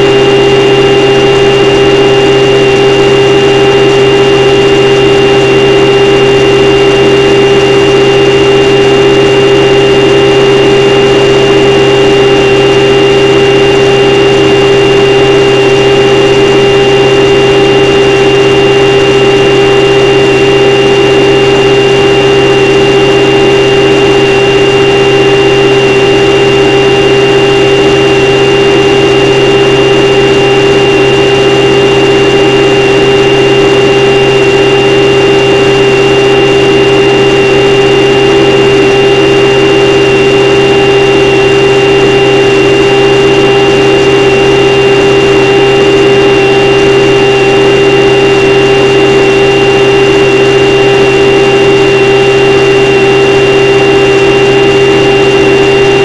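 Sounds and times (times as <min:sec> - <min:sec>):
model airplane motor drone: 0:00.0 - 0:56.0.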